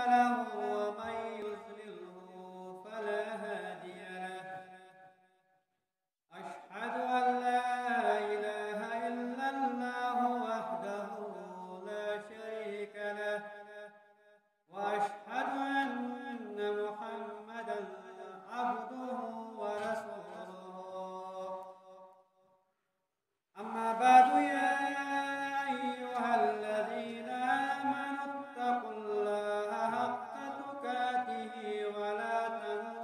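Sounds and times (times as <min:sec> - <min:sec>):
man chanting: 0:00.0 - 0:04.6, 0:06.4 - 0:13.4, 0:14.7 - 0:21.6, 0:23.6 - 0:33.0.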